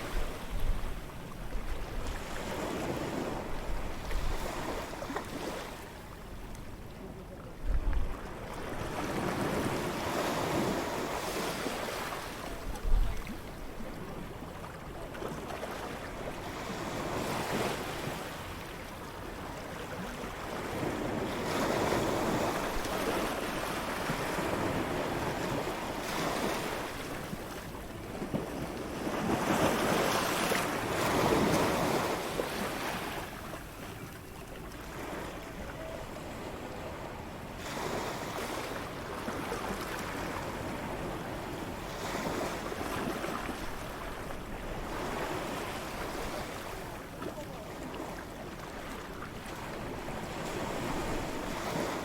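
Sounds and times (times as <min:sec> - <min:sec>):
ocean waves breaking on beach: 0:00.0 - 0:52.0
wind: 0:00.0 - 0:52.0.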